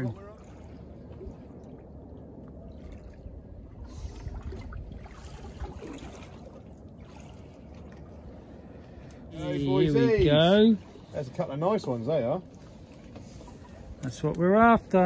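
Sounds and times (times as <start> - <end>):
water lapping at hull: 0.0 - 15.0.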